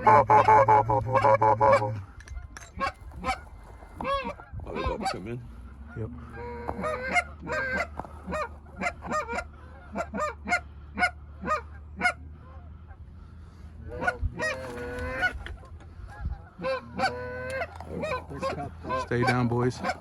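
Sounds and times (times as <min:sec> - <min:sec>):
geese honking: 0:00.0 - 0:20.0
low hum: 0:00.0 - 0:20.0.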